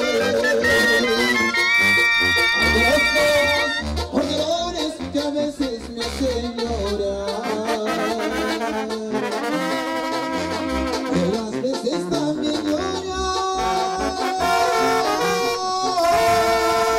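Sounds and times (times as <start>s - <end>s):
brass band playing: 0.0s - 16.9s.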